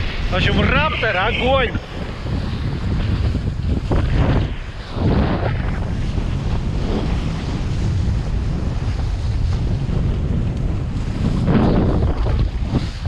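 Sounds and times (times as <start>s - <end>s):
water rushing and spraying: 0.0s - 13.0s
wind buffeting microphone: 0.0s - 13.0s.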